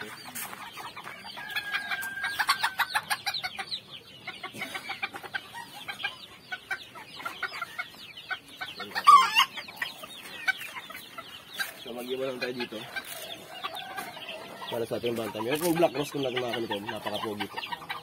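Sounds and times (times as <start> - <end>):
chickens clucking and peeping: 0.0 - 18.0.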